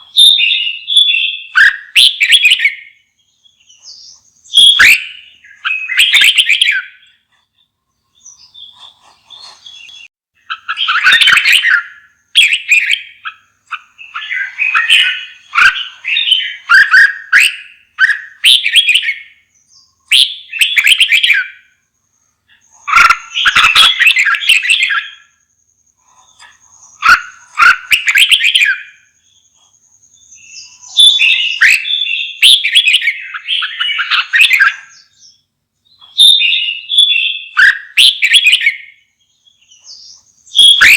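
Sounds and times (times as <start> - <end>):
bird warbling and chattering: 0.0 - 21.7, 22.4 - 40.9.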